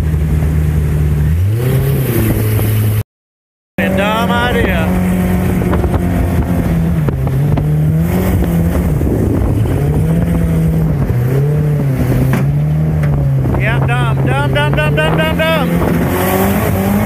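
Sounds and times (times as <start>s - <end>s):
outboard motor running: 0.0s - 1.5s, 3.8s - 16.1s.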